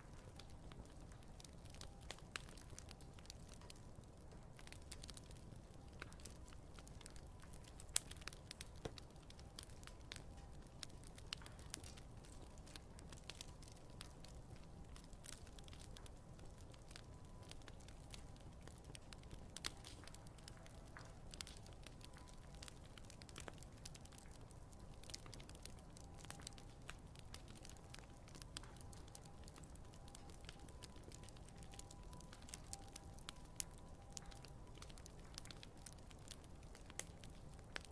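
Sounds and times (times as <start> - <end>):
campfire crackling: 0.0 - 37.9.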